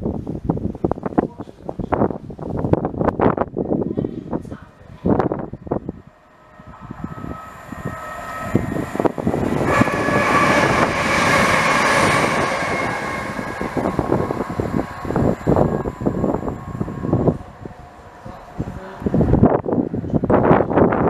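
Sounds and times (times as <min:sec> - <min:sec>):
diesel train passing: 0:02.3 - 0:21.0
train whine: 0:02.4 - 0:21.0.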